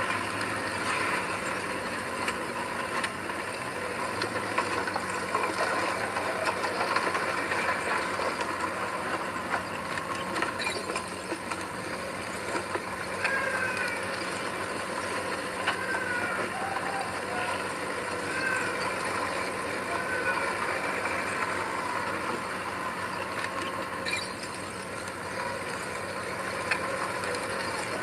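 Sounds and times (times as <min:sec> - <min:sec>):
heavy diesel machine running: 0:00.0 - 0:28.0.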